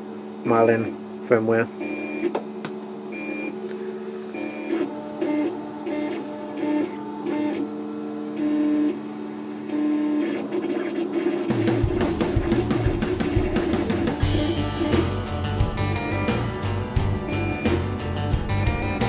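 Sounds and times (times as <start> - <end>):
steady hum: 0.0 - 19.0
stepper motors whining: 1.8 - 19.0.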